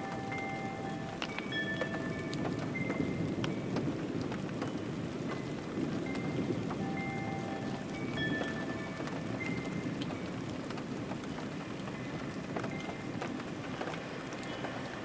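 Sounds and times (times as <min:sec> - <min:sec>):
raindrops ticking: 0:00.0 - 0:15.0
steady rain falling: 0:00.0 - 0:15.0.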